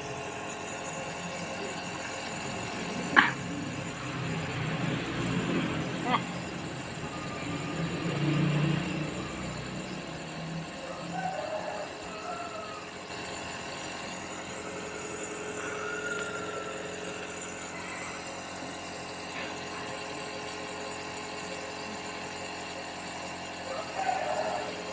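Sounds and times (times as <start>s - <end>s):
pump motor humming: 0.0s - 24.9s.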